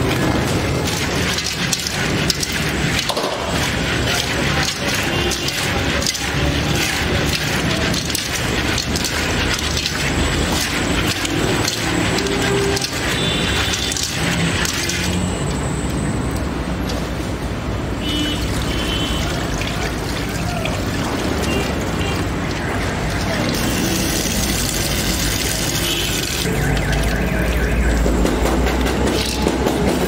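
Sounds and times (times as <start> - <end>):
raisins rubbing and clicking: 0.0 - 17.3, 18.3 - 30.0
background clatter and hum: 0.0 - 30.0
water poured onto concrete floor: 0.0 - 30.0
water sloshing and splashing: 0.0 - 30.0.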